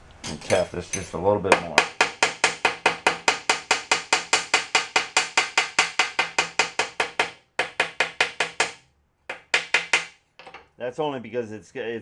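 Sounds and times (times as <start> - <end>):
hammer tapping on metal ring: 0.2 - 10.7.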